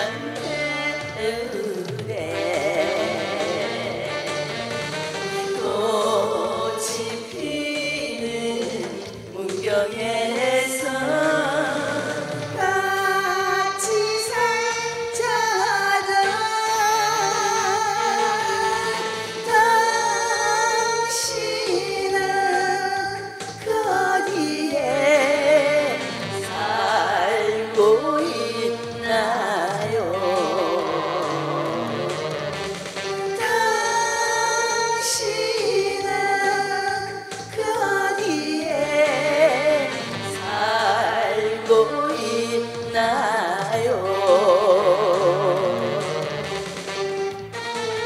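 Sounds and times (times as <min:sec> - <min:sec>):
woman singing into a microphone: 0:00.0 - 0:32.6, 0:33.3 - 0:46.6
pop backing music with bass line: 0:00.0 - 0:48.0.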